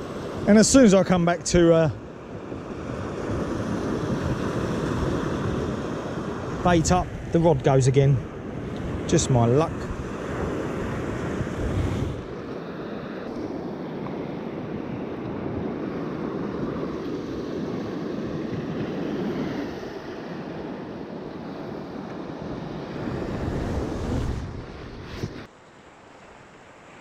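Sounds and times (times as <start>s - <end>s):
wind rushing over microphone: 0.0s - 25.5s
surf breaking on shore: 0.0s - 27.0s.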